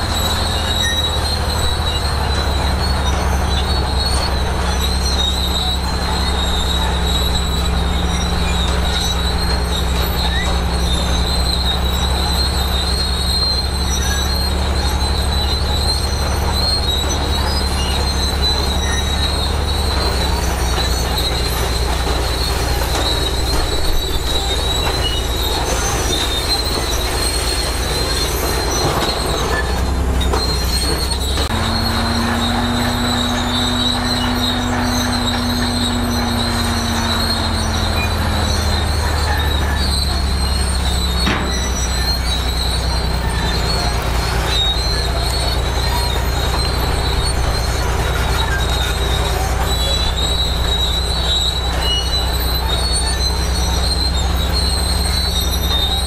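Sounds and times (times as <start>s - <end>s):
bulldozer diesel engine: 0.0s - 56.0s
metal tracks squealing: 0.0s - 56.0s.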